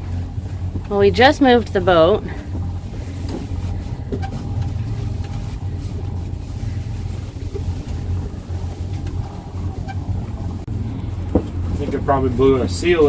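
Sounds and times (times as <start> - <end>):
boat engine hum: 0.0 - 13.0.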